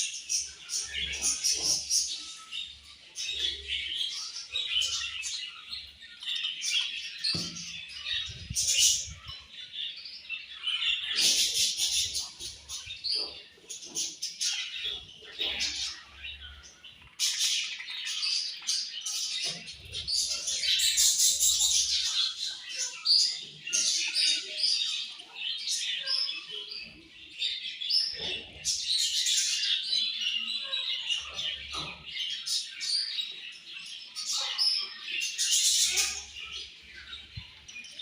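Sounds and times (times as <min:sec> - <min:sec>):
budgerigars chirping and chattering: 0:00.0 - 0:38.0.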